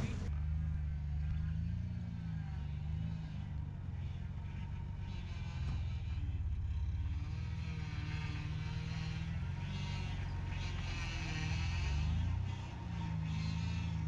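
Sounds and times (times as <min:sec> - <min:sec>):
pickup engine rumbling: 0:00.0 - 0:14.0
tyres creeping over packed snow: 0:00.0 - 0:14.0.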